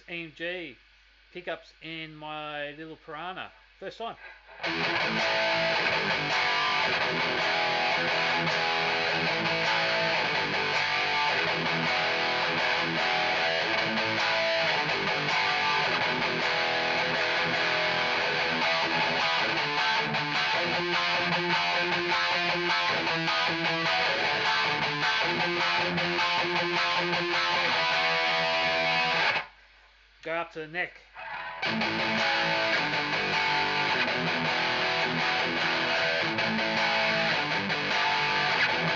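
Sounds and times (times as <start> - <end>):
distorted electric guitar riffs: 3.6 - 29.6, 31.1 - 38.9.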